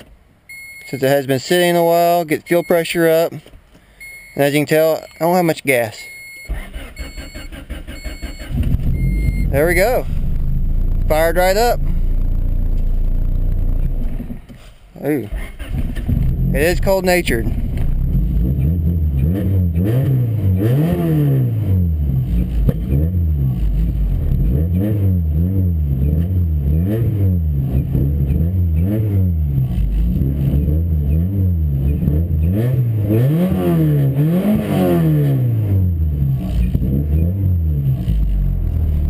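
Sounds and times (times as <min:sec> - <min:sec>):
car engine revving: 0:06.5 - 0:14.4, 0:15.3 - 0:39.0.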